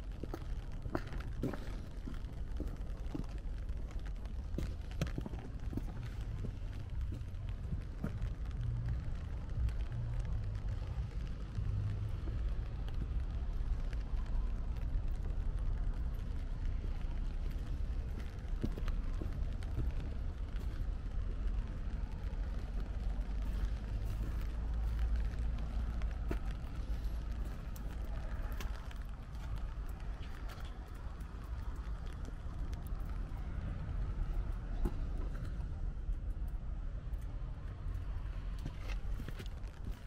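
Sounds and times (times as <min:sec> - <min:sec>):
footsteps on wet street: 0:00.0 - 0:40.0
steady low rumble: 0:00.0 - 0:40.0.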